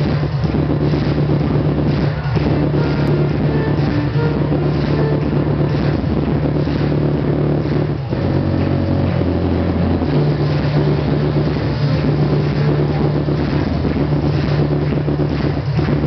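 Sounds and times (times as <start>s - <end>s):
loud electronic music: 0.0s - 16.0s
low droning bass line: 0.0s - 16.0s.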